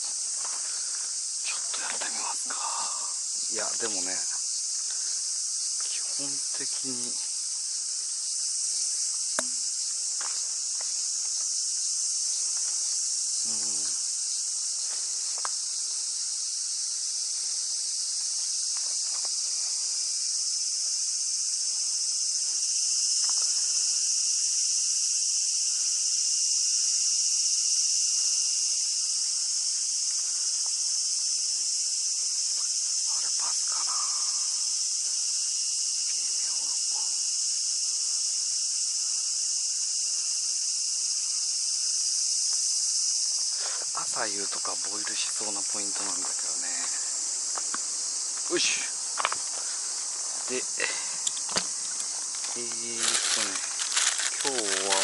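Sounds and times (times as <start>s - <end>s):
cicadas singing: 0.0s - 55.0s.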